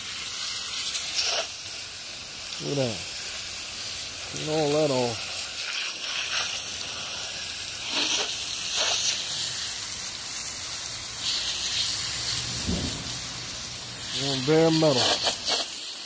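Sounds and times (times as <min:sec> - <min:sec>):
hose spraying water on metal: 0:00.0 - 0:16.0.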